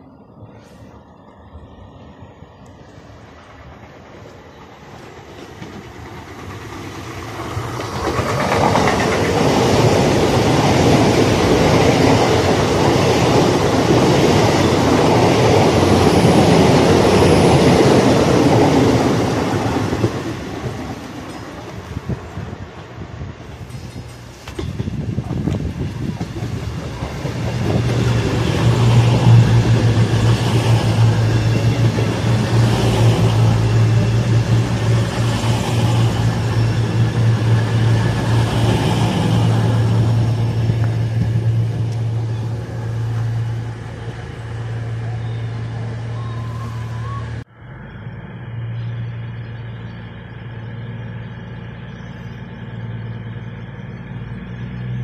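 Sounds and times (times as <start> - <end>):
diesel train engines humming: 0.0 - 55.0.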